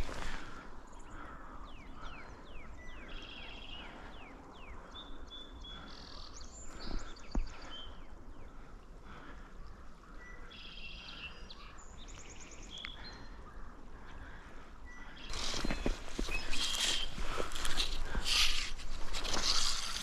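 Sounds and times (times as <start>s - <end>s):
songbirds singing and chirping: 0.0s - 20.0s.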